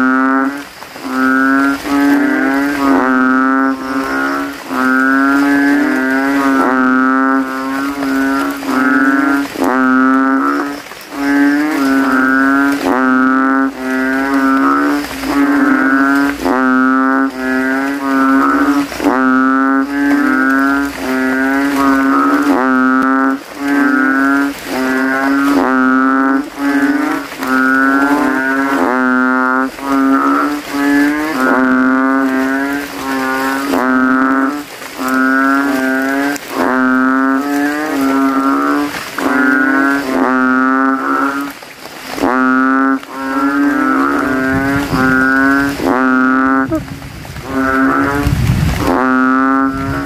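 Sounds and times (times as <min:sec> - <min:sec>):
frogs calling: 0:00.0 - 0:50.0.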